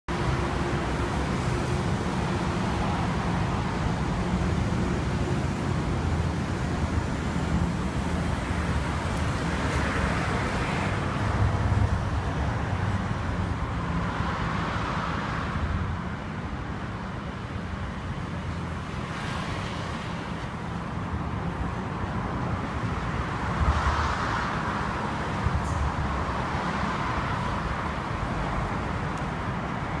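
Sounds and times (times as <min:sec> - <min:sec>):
cars passing by: 0:00.1 - 0:30.0
traffic rumble: 0:00.1 - 0:30.0.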